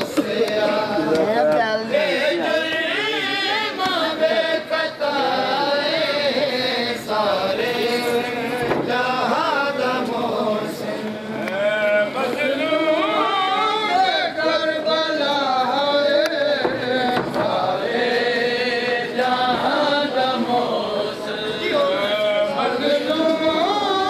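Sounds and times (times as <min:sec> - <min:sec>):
men chanting a lament: 0:00.0 - 0:24.0.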